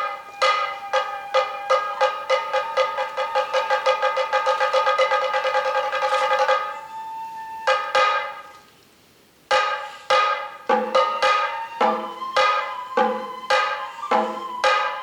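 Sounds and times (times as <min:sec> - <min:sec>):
bamboo flute: 0:00.0 - 0:08.9, 0:09.5 - 0:15.0
drums: 0:00.0 - 0:15.0.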